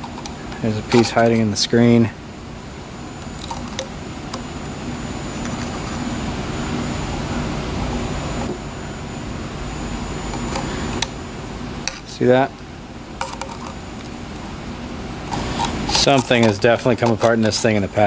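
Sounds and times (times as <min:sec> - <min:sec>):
rumbling hissing noise: 0:00.0 - 0:18.0.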